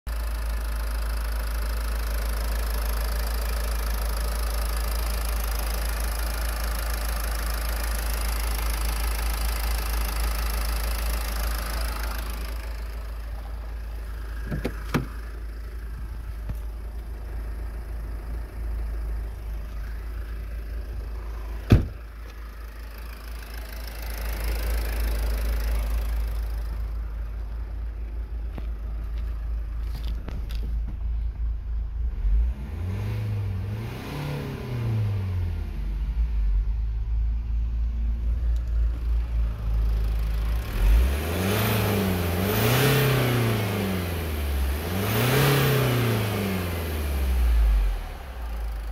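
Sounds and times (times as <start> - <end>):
diesel engine idling: 0.1 - 32.4, 35.0 - 48.9.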